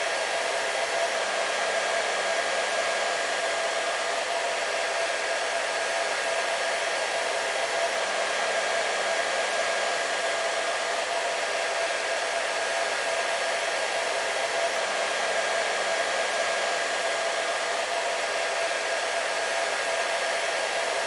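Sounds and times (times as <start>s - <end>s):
hair dryer blowing air: 0.0s - 21.0s.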